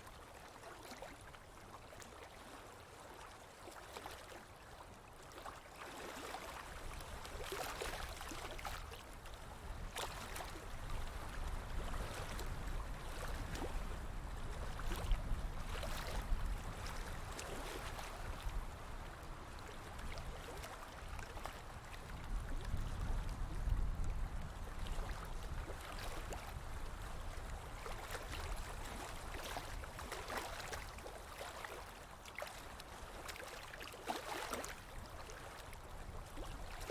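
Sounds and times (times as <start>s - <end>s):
stream water flowing and splashing: 0.0s - 36.9s.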